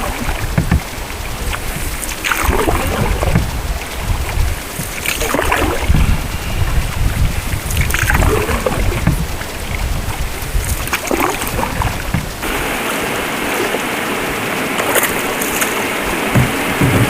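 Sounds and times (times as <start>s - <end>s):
paddle strokes splashing: 0.0s - 17.0s
wind rumbling on microphone: 0.0s - 17.0s.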